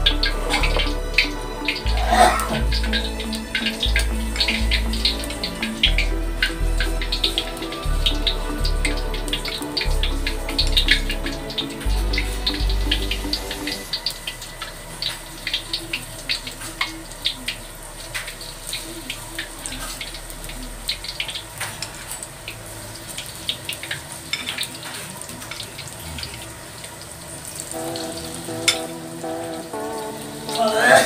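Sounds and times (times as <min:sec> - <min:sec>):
batter crackling and popping in oil: 0:00.0 - 0:28.9
deep-frying sizzle in hot oil: 0:01.6 - 0:28.9.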